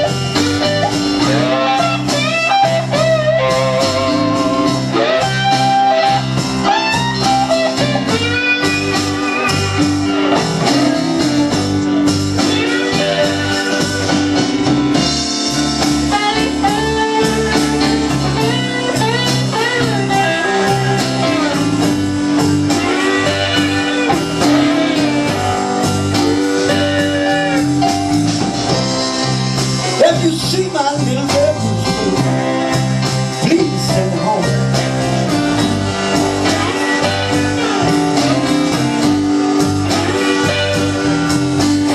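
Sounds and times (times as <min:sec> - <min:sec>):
lead guitar with bent notes: 0:00.0 - 0:41.9
live blues band: 0:00.0 - 0:41.9.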